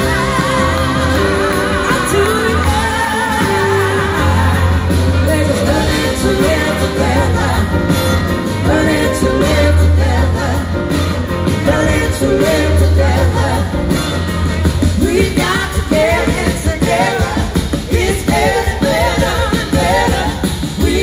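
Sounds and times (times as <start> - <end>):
heavy bass: 0.0 - 18.4
live rock band playing: 0.0 - 21.0
vocals: 0.0 - 21.0.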